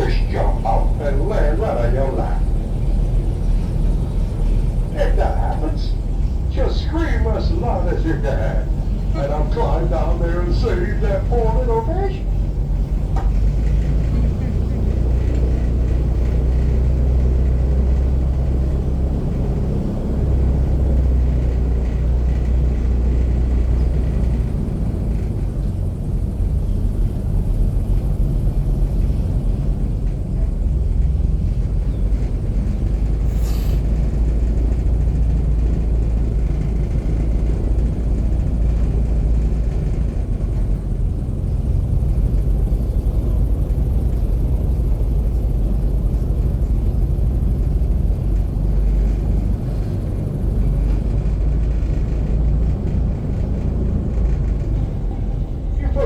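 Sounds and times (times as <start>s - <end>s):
airboat engine droning: 0.0s - 56.0s.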